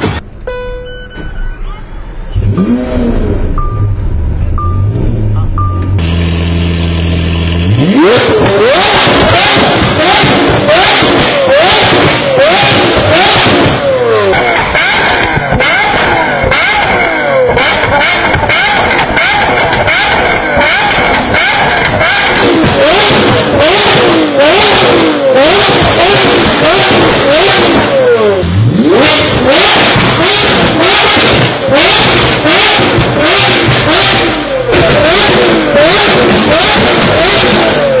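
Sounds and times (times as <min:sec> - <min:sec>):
sports car engine revving: 0:02.3 - 0:38.0
exhaust cracks: 0:06.0 - 0:38.0.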